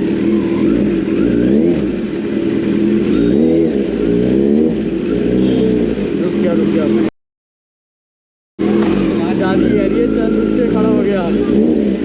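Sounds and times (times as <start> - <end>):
motorcycle engine revving: 0.0 - 7.1, 8.6 - 12.0.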